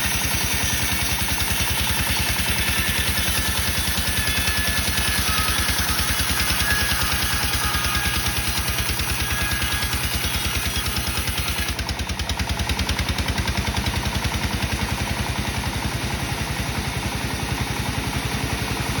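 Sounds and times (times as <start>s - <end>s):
engine chugging: 0.0s - 19.0s.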